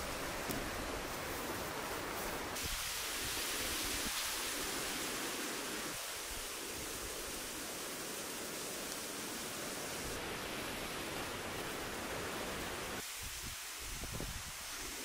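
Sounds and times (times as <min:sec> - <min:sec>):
rushing hiss of outdoor ambience: 0:00.0 - 0:15.0.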